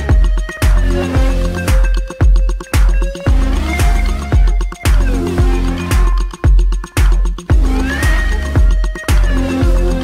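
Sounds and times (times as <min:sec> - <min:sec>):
hardstyle electronic music: 0:00.0 - 0:10.0
heavy kick drum: 0:00.0 - 0:10.0.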